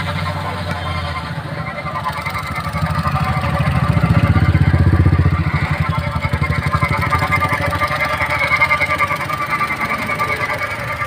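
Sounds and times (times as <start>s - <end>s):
car engine idling: 0.0s - 11.0s
rhythmic belt pulley noise: 0.0s - 11.0s.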